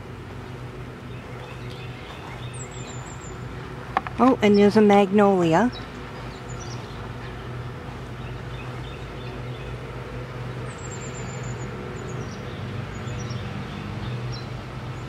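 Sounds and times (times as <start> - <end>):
low mechanical hum: 0.0 - 15.0
outdoor background noise: 0.0 - 15.0.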